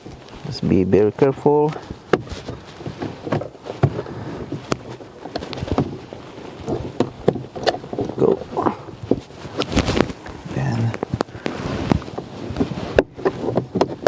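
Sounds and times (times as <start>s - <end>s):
plastic scraping against metal: 1.7s - 14.0s.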